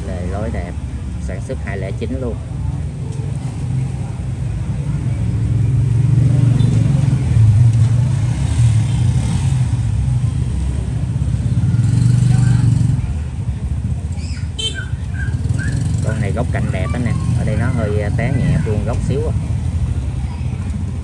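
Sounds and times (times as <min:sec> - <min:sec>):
passing vehicle engines rumbling: 0:00.0 - 0:21.0.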